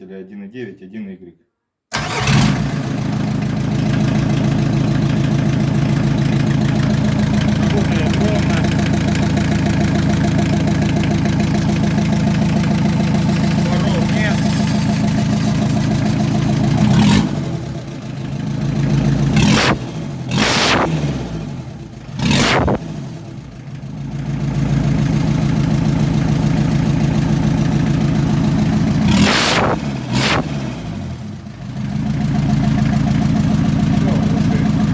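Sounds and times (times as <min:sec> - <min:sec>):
diesel engine idling and revving: 0:01.9 - 0:34.9.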